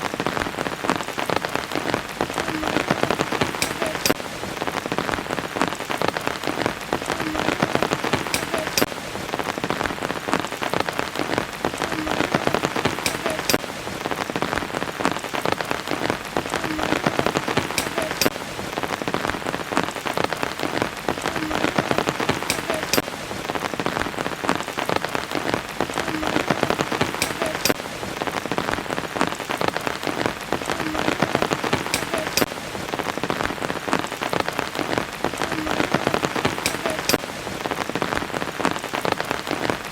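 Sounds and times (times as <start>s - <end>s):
raindrops ticking: 0.0s - 39.9s
steady rain hiss: 0.0s - 39.9s.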